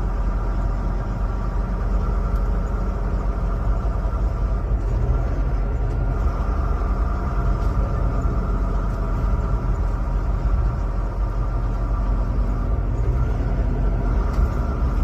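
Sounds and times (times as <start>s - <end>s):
vehicle engine low rumble: 0.0s - 15.0s.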